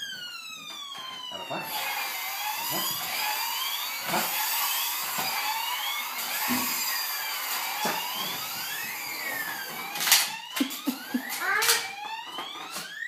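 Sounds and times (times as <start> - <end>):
toy siren wailing: 0.0 - 13.0.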